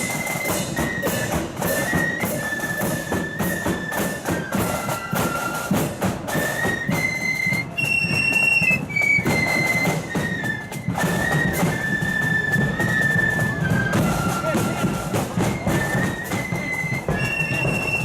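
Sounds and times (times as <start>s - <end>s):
steady drum beat: 0.0s - 7.8s, 8.5s - 18.0s
flutes playing high melody: 0.0s - 18.0s.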